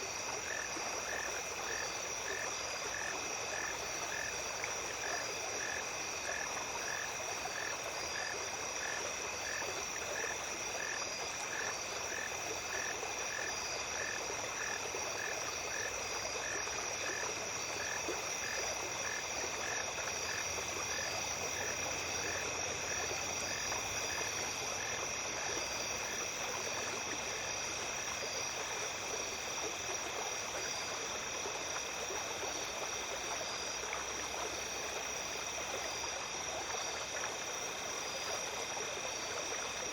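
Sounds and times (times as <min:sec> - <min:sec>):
insects trilling: 0:00.0 - 0:39.9
running stream: 0:00.0 - 0:39.9.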